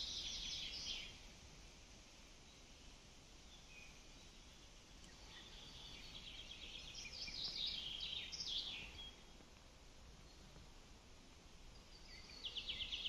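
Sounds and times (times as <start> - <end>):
forest ambience hiss: 0.0 - 13.0
songbird singing: 0.0 - 13.0.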